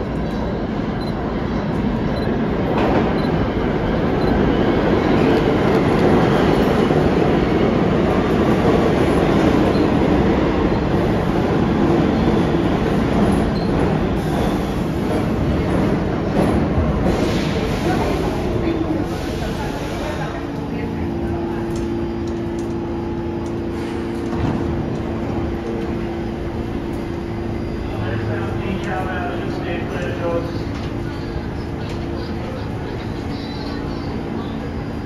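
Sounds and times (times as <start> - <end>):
subway train wheel and track noise: 0.0 - 35.0.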